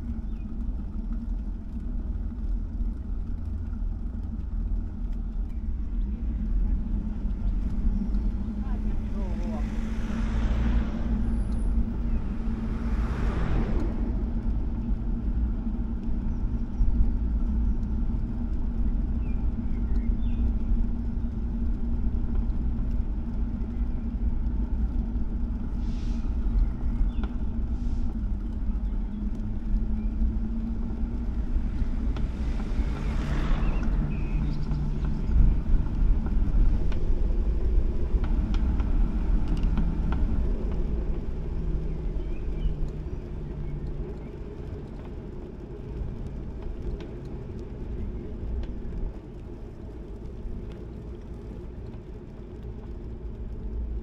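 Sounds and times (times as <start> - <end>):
low rumble: 0.0 - 54.0
traffic passing: 0.0 - 54.0
vehicle engine running: 0.0 - 54.0.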